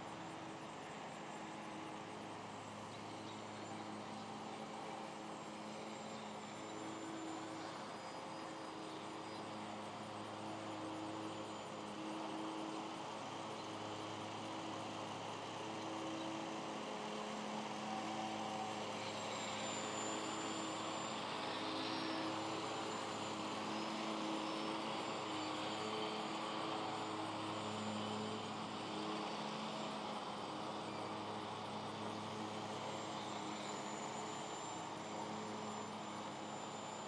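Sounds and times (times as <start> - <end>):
model plane propeller droning: 0.0 - 37.0.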